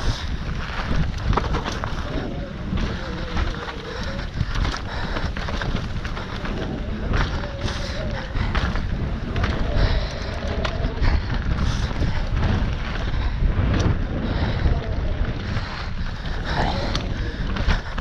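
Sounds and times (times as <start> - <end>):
bike rattles and knocks: 0.0 - 18.0
wind noise on microphone: 0.0 - 18.0.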